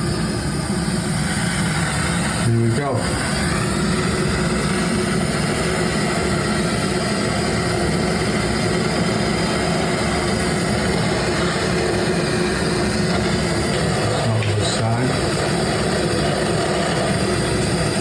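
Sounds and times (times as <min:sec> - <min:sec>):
blowtorch flame rushing: 0:00.0 - 0:18.0.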